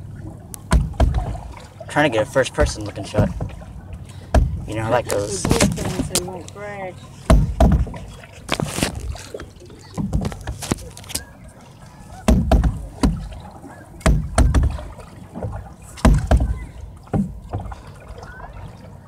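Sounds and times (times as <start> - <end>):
paddle splashing and knocking hull: 0.0 - 19.0.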